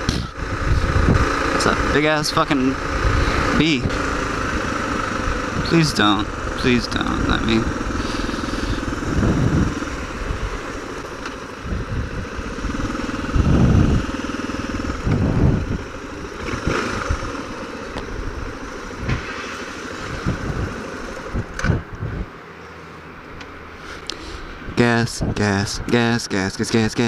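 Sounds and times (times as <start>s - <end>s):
low rumbling surges: 0.0s - 22.4s
motorcycle engine running: 0.0s - 27.0s.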